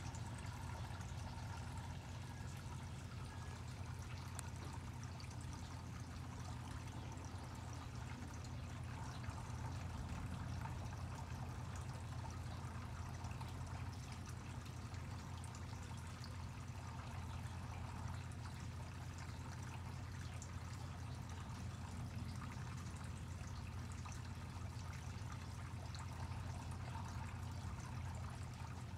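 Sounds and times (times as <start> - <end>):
low even hum: 0.0 - 28.9
water trickling: 0.0 - 28.9.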